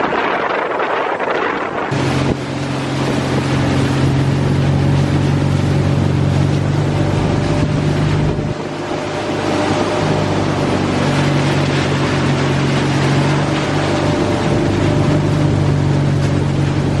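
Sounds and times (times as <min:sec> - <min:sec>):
broad rushing noise: 0:00.0 - 0:17.0
engine running steadily: 0:00.0 - 0:17.0.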